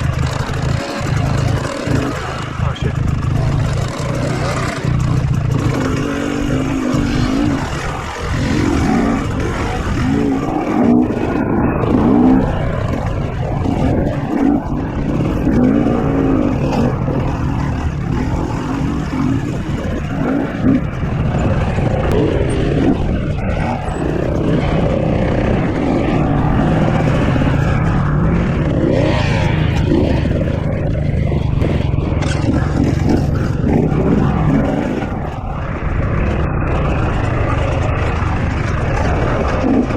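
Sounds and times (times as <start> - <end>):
two-stroke dirt bike engine revving: 0.0 - 39.9.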